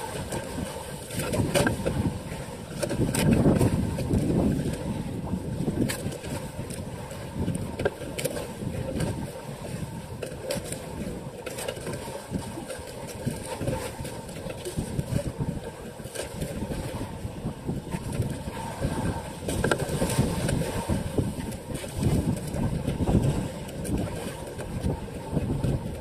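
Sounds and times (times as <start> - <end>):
boat engine running: 0.0 - 26.0
wind and water rushing: 0.0 - 26.0.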